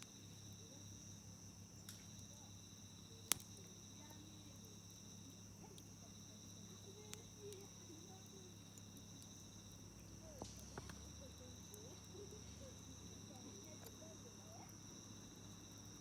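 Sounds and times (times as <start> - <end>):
campfire crackling and popping: 0.0 - 16.0
insect trill: 0.0 - 16.0.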